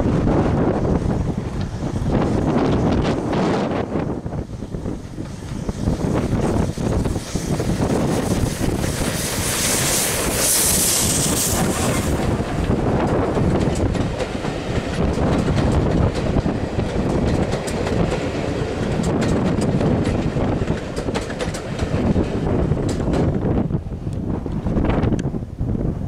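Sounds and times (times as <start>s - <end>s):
steam locomotive hissing: 0.1s - 23.4s
train wheels clicking on rail joints: 0.1s - 25.3s.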